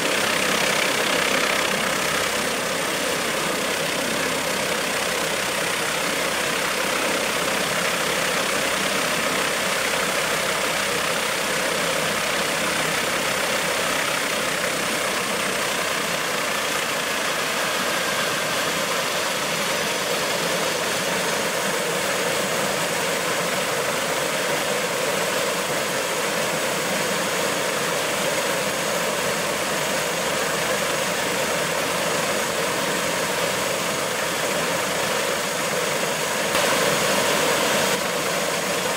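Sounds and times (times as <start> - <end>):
faint turbine whine: 0.0 - 38.9
helicopter rotor rush: 0.0 - 38.9.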